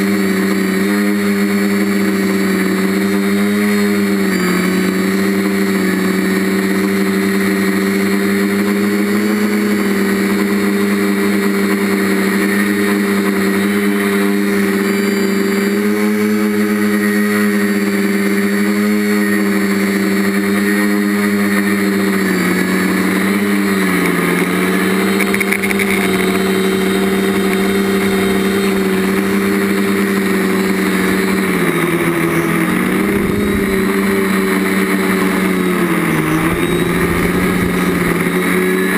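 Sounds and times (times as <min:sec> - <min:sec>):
drone motors and propellers humming: 0:00.0 - 0:38.9.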